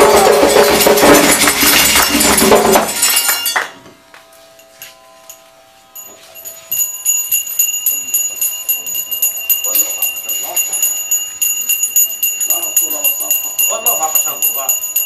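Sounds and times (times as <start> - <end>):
metal handbell ringing: 0.0 - 3.8, 4.6 - 15.0
percussion: 0.0 - 15.0.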